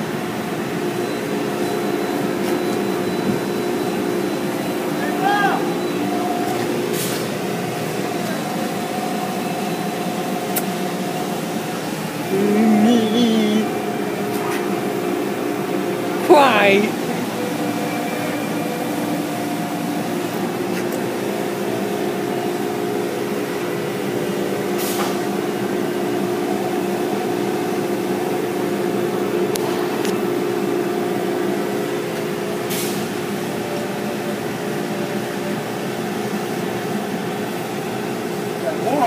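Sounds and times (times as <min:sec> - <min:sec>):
car wash machinery humming: 0:00.0 - 0:39.0.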